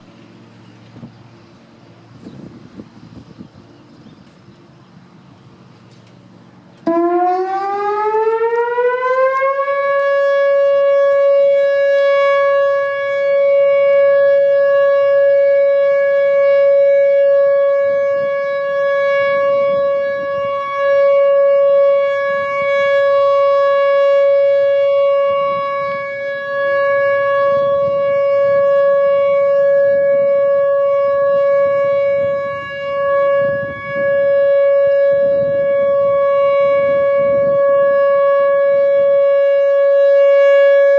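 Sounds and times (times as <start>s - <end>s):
outdoor warning siren: 0.0s - 40.9s.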